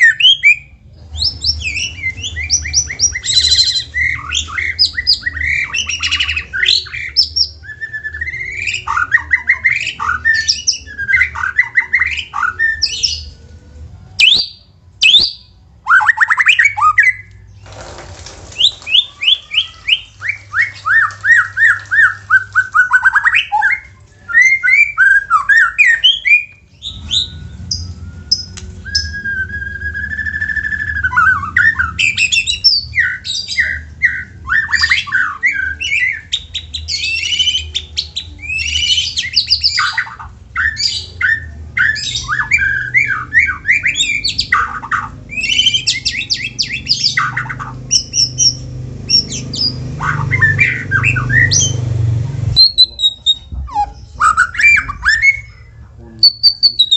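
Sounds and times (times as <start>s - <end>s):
bird singing varied song: 0.0s - 17.7s, 18.6s - 56.9s.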